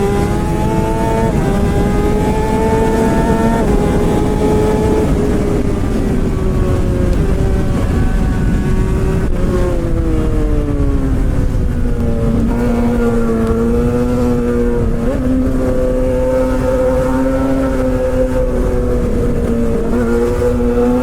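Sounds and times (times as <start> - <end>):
low wind rumble: 0.0 - 21.0
motorcycle engine: 0.0 - 21.0.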